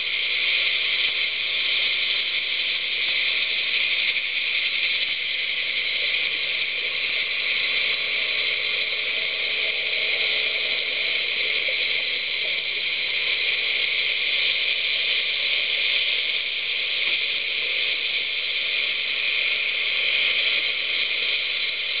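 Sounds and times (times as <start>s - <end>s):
underwater hiss: 0.0s - 22.0s.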